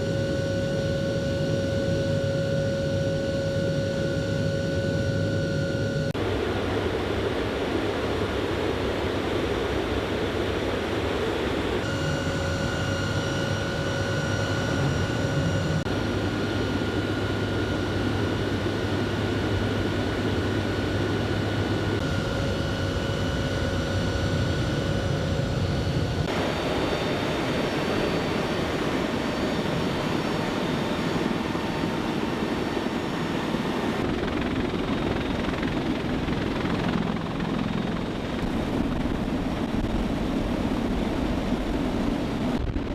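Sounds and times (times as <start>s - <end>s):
aircraft turbine engine: 0.0s - 42.9s
high turbine whine: 0.0s - 42.9s.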